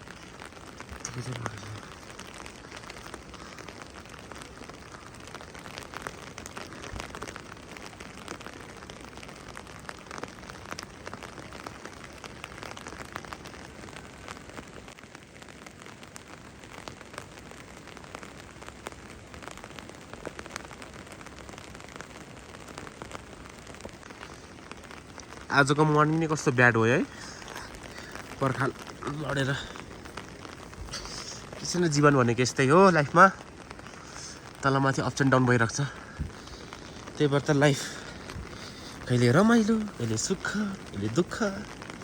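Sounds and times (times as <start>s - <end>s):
light rain falling: 0.0s - 42.0s.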